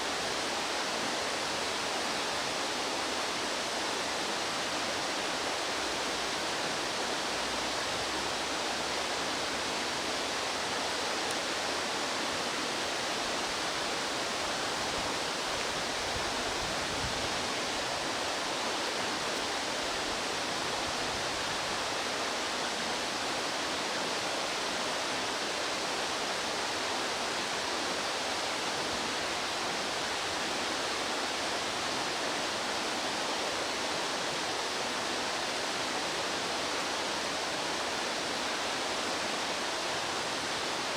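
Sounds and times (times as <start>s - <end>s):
fast-flowing stream rushing: 0.0s - 40.9s.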